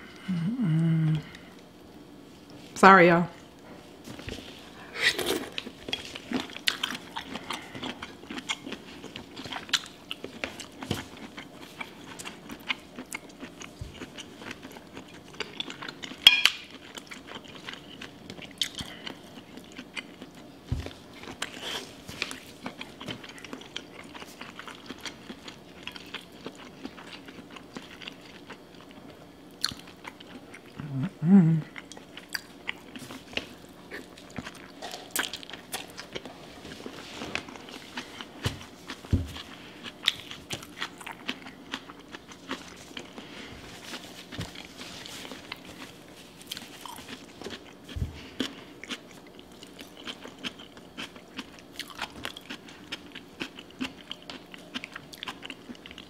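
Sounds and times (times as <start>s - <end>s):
person chewing wetly: 5.1s - 31.0s, 31.7s - 56.0s.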